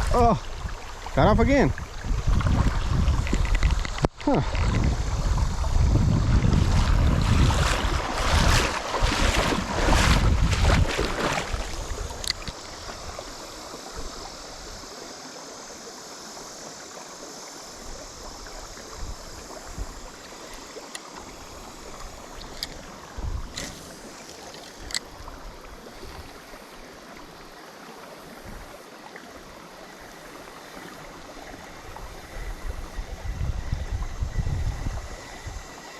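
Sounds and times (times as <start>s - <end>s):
river water flowing: 0.0s - 35.9s.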